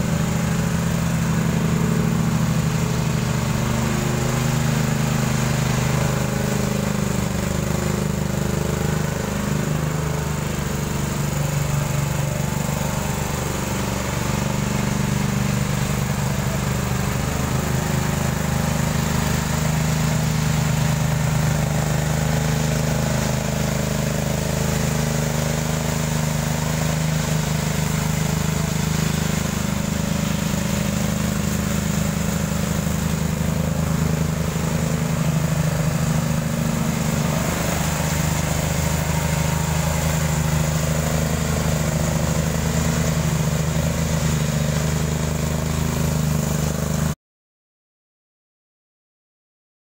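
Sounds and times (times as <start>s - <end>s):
power trowel engine running: 0.0s - 47.2s.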